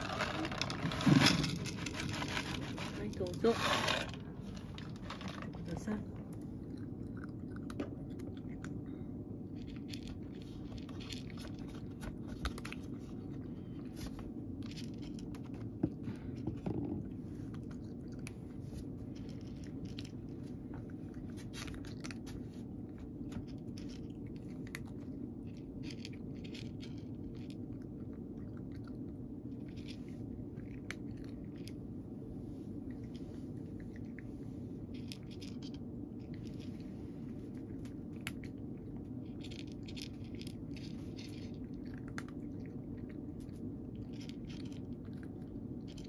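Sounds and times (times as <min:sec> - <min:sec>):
cat crunching dry kibble: 0:00.0 - 0:46.0
low hum: 0:00.0 - 0:46.0.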